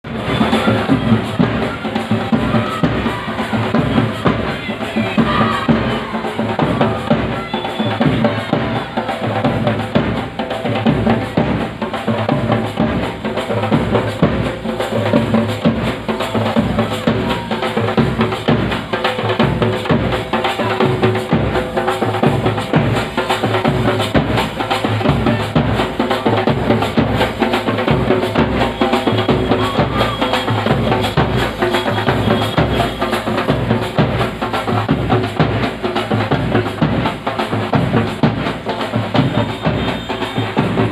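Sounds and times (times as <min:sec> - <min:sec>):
music with heavy fast drums: 0:00.0 - 0:40.9.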